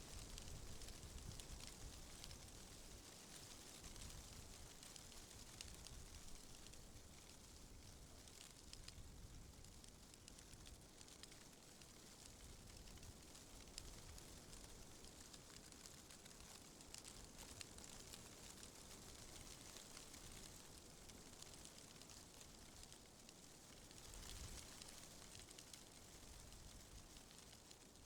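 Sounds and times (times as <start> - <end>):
wind rustling tree leaves: 0.0 - 9.5, 11.9 - 28.0.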